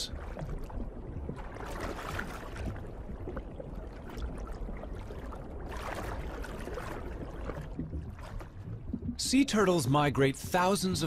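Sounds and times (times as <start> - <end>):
underwater watery rush and gurgle: 0.0 - 11.0.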